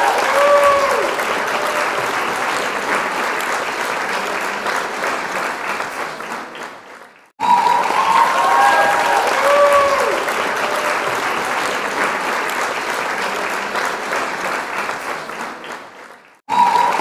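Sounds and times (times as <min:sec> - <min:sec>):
crowd applause: 0:00.0 - 0:17.0.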